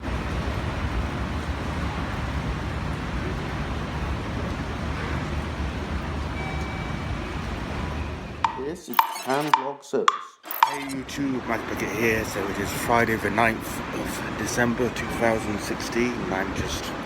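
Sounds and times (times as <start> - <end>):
rain falling: 0.0 - 8.4, 11.0 - 17.0.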